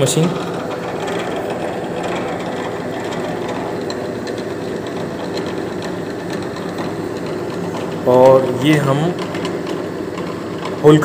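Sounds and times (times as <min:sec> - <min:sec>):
drill machine motor humming: 0:00.0 - 0:11.0.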